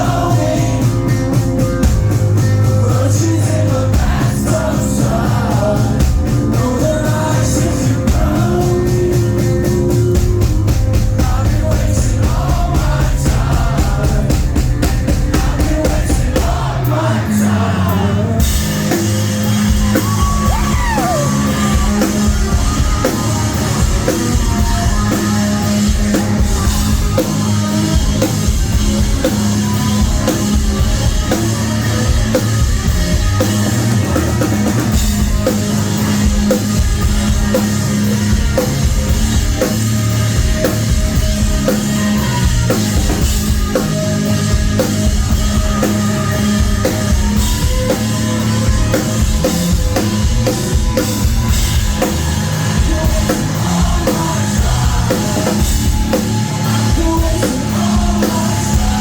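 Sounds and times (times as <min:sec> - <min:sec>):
live rock band playing: 0:00.0 - 0:59.0
steady drum beat: 0:00.0 - 0:59.0.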